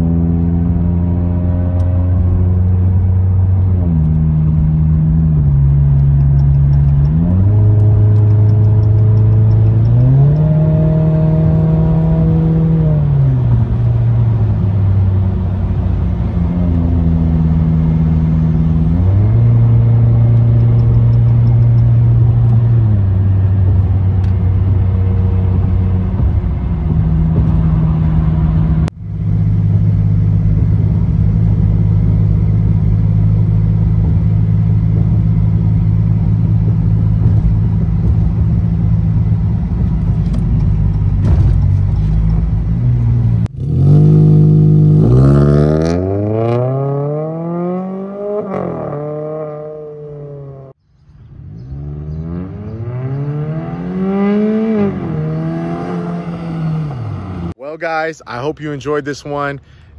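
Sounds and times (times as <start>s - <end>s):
car exhaust drone in cabin: 0.0s - 48.5s.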